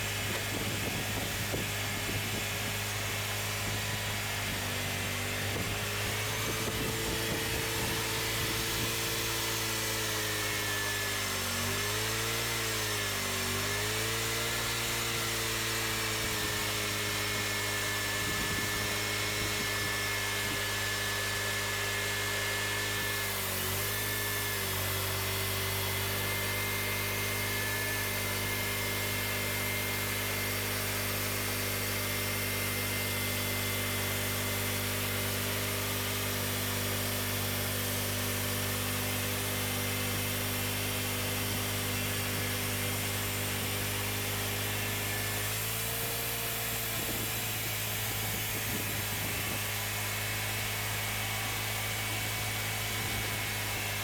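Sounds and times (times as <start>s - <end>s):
band blade sawing log: 0.0s - 54.0s
sawmill engine running: 0.0s - 54.0s.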